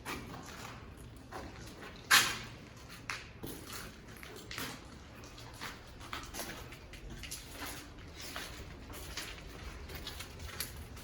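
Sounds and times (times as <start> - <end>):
footsteps crunching on gritty ground: 0.0 - 11.0.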